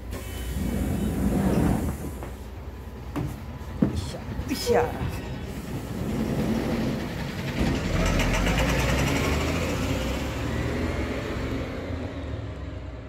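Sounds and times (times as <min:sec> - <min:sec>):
bus engine pulling away: 0:00.0 - 0:13.0.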